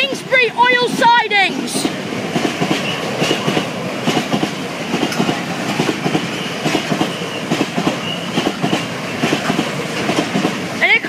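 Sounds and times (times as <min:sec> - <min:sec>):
freight train rumble: 0:00.0 - 0:11.0
train wheels clattering over rail joints: 0:00.0 - 0:11.0.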